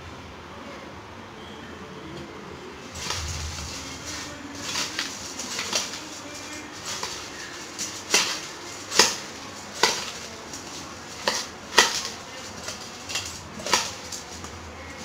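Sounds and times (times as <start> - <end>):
spoon scraping steel bowl: 2.9 - 15.0.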